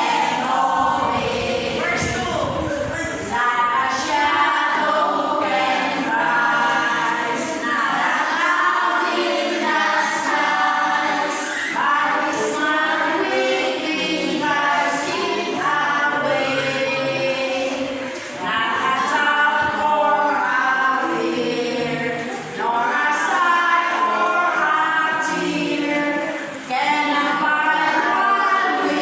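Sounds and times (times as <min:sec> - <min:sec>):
group singing a hymn: 0:00.0 - 0:29.0.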